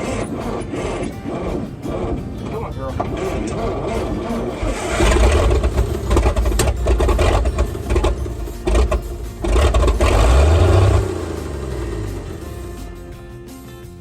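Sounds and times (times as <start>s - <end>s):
truck engine cranking and firing: 0.0s - 13.3s.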